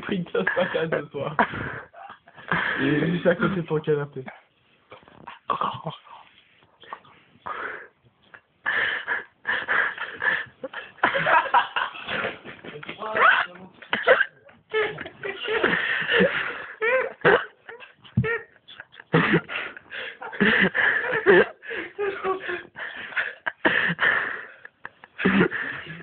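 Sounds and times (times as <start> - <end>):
people laughing: 0.0 - 3.6, 8.8 - 26.0.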